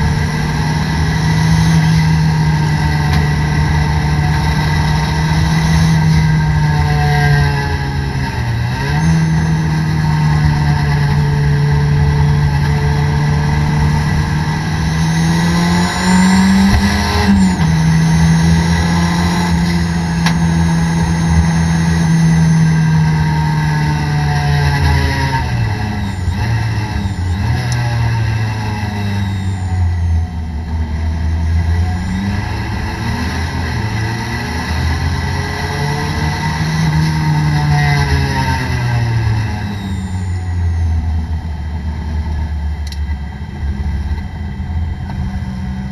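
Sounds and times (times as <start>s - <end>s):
race car engine from inside cabin: 0.0s - 45.9s.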